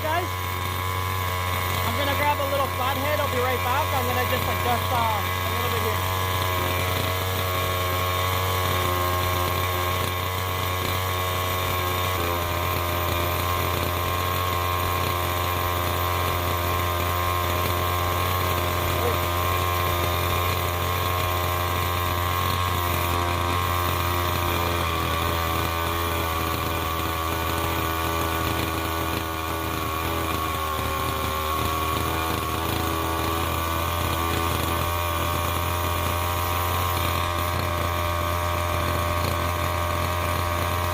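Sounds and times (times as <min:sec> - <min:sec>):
small two-stroke engine running: 0:00.0 - 0:40.9.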